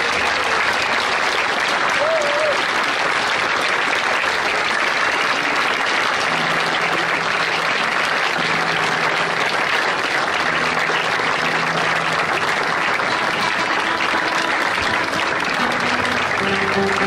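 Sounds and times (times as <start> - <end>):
crowd applause: 0.0 - 17.0.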